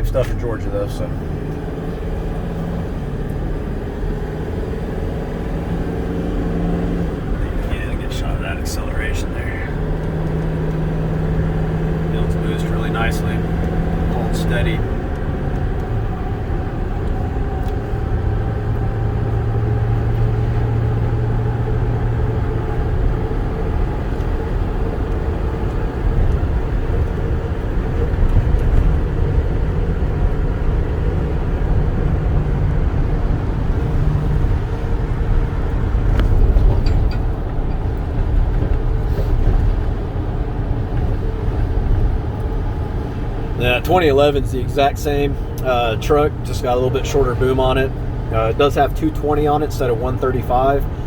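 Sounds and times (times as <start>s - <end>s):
truck diesel engine from cab: 0.0s - 51.0s
tyre and road noise: 0.0s - 51.0s.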